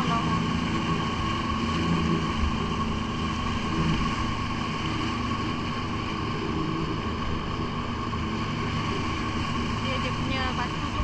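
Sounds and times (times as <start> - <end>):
high whine: 0.0 - 11.0
jet ski engine running: 0.0 - 11.0.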